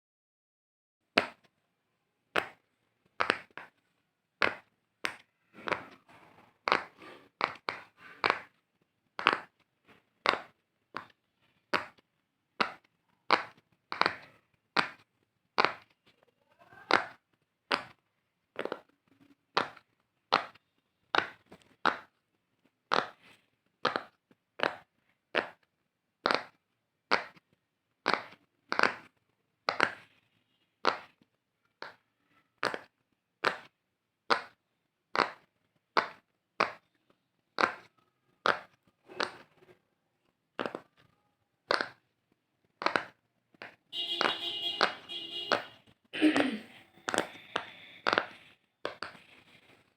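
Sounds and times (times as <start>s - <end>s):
fidget toy popping: 1.1s - 1.5s, 2.3s - 3.8s, 4.4s - 8.6s, 9.2s - 22.2s, 22.9s - 30.2s, 30.8s - 32.0s, 32.6s - 37.0s, 37.6s - 39.6s, 40.5s - 49.8s.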